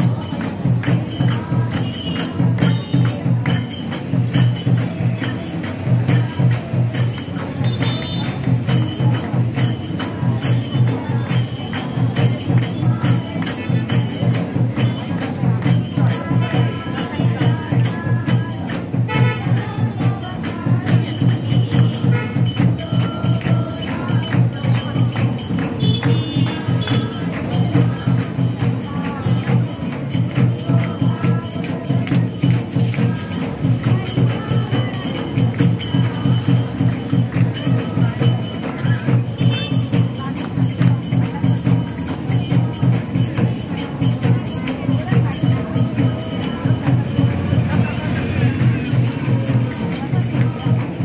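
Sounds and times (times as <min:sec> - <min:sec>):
jingling percussion: 0:00.0 - 0:51.0
steady drumbeat: 0:00.0 - 0:51.0.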